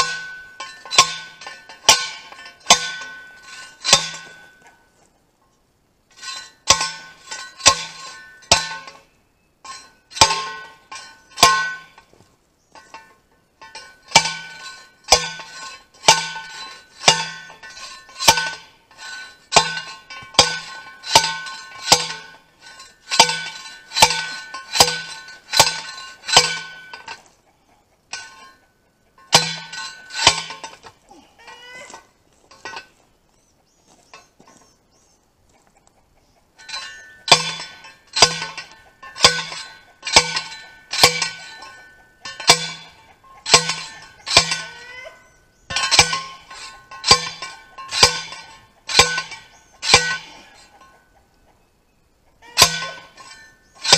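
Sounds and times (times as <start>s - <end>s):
post driver clanging on steel post: 0.0s - 4.8s, 6.1s - 12.1s, 12.7s - 27.3s, 28.1s - 33.0s, 36.6s - 51.1s, 52.4s - 53.9s.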